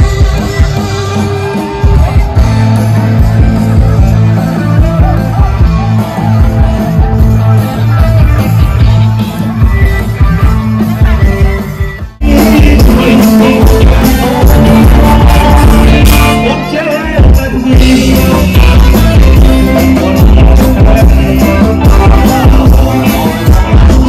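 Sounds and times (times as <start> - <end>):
band music with singing: 0.0 - 24.0.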